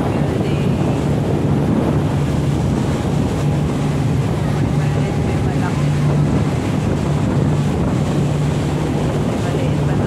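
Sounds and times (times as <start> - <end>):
boat engine drone: 0.0 - 10.0
water washing against hull: 0.0 - 10.0
wind buffeting microphone: 0.0 - 10.0.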